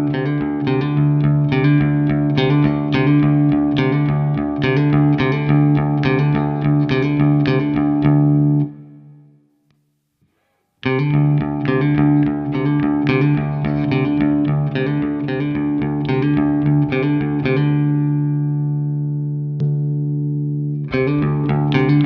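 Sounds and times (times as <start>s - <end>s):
electric guitar picked notes: 0.0s - 9.5s, 10.8s - 22.0s.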